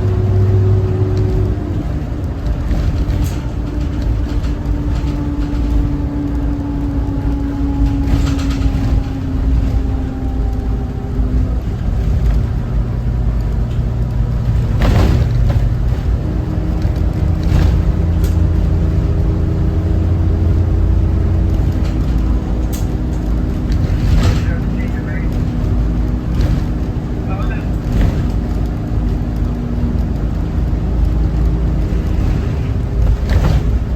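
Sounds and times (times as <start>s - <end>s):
bus diesel engine rumbling: 0.0s - 33.9s.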